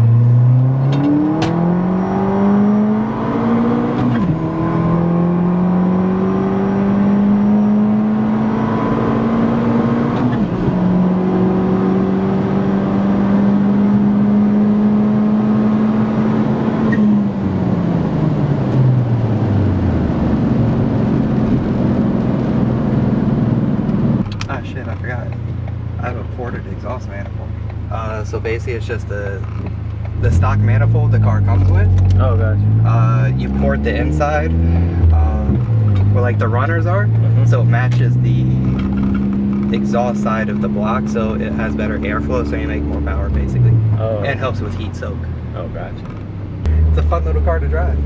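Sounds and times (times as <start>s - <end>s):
turbocharged car engine accelerating: 0.0s - 27.3s, 28.0s - 48.0s.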